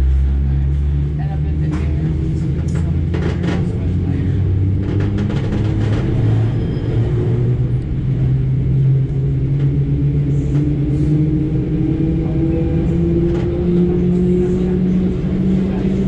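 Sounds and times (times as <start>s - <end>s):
train motors humming: 0.0s - 16.0s
train rumble: 0.0s - 16.0s.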